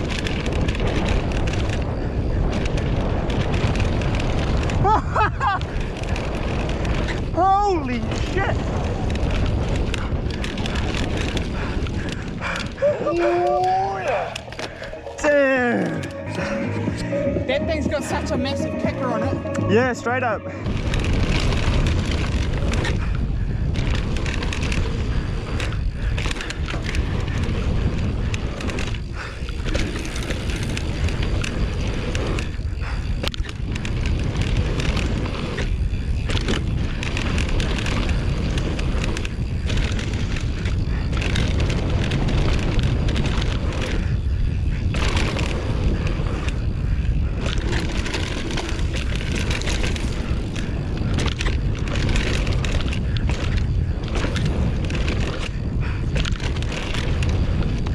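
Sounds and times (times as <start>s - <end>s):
bike tyres clattering on rough ground: 0.0s - 15.5s, 20.6s - 57.9s
wind rush on microphone: 0.0s - 15.7s, 19.7s - 57.9s.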